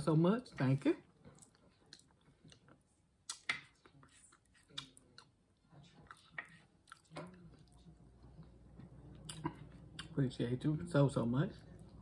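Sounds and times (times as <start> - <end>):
soft chewing: 0.4 - 10.5, 11.3 - 12.0.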